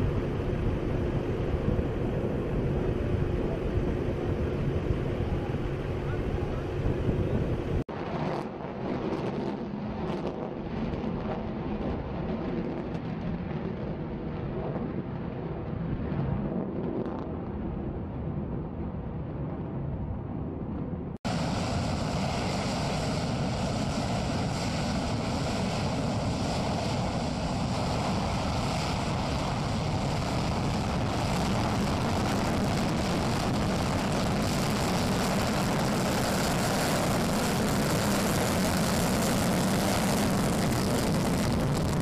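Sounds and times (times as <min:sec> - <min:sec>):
jet engines roaring: 0:00.0 - 0:19.6, 0:21.3 - 0:42.0
muffled jet rumble: 0:00.0 - 0:42.0.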